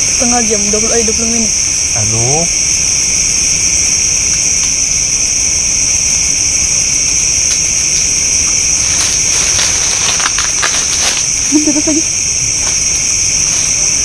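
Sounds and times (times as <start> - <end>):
crickets and insects chirping: 0.0 - 14.0.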